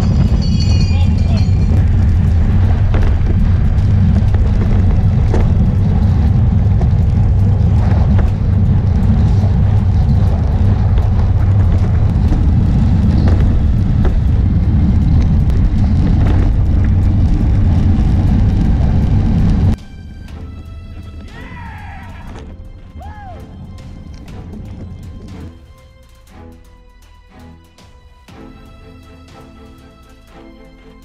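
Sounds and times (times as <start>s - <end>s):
wind buffeting microphone: 0.0s - 25.7s.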